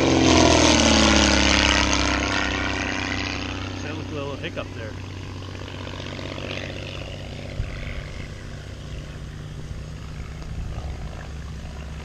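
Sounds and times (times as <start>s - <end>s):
propeller plane droning: 0.0s - 12.0s.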